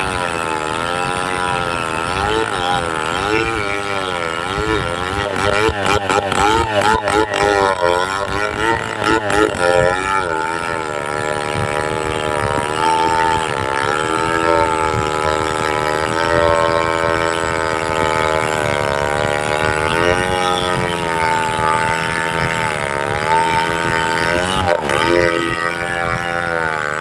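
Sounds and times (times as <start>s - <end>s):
chainsaw cutting tree trunk: 0.0s - 27.0s.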